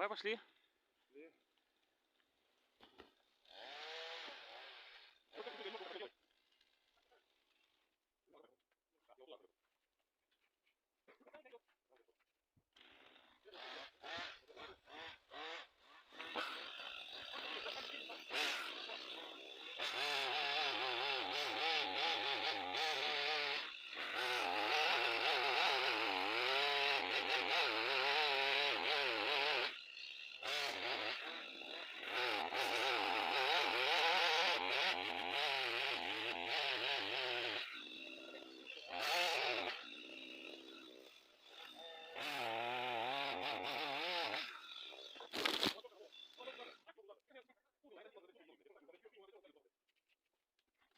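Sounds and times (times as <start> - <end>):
chainsaw cutting wood: 0.5 - 8.0, 12.7 - 46.8.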